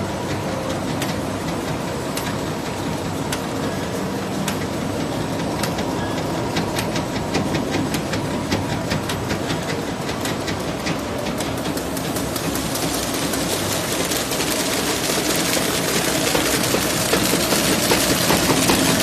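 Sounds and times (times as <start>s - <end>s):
machine mechanical clatter: 0.0s - 19.0s.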